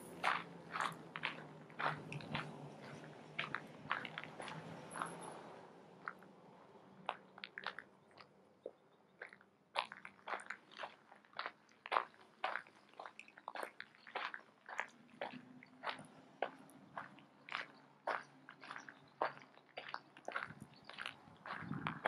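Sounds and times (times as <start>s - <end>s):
footsteps on gravel: 0.0s - 6.2s, 7.1s - 22.0s.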